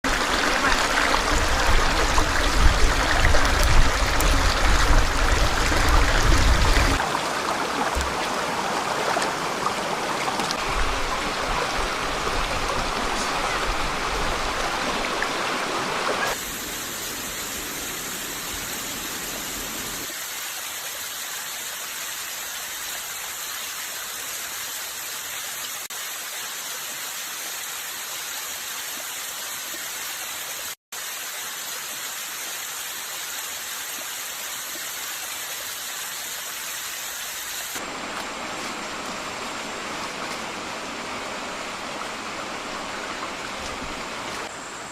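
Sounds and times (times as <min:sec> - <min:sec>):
stream rushing: 0:00.0 - 0:44.9.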